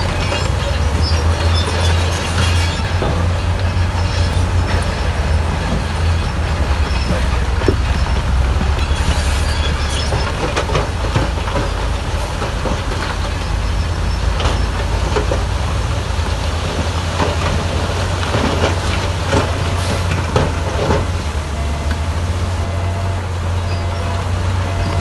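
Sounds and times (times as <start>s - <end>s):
diesel engine low rumble: 0.0s - 25.0s
steel tracks clanking and squeaking: 0.0s - 25.0s.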